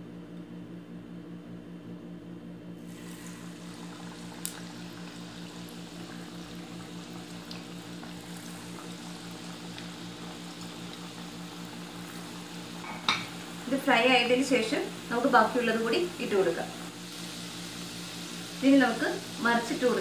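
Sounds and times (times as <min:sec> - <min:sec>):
dough sizzling in hot oil: 0:02.8 - 0:20.0.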